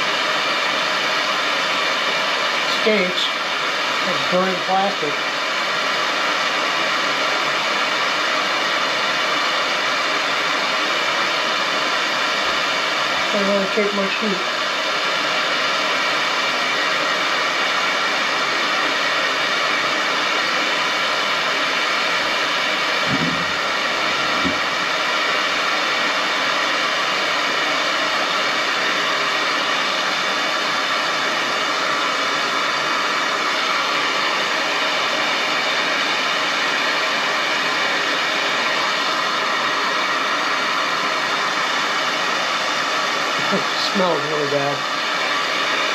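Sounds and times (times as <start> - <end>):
propane torch hissing: 0.0 - 45.9.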